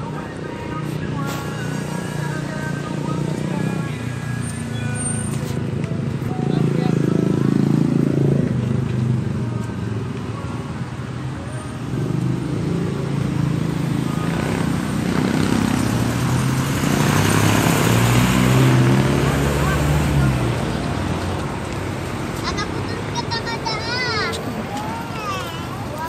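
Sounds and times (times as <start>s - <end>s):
vehicle engines passing: 0.0s - 26.0s.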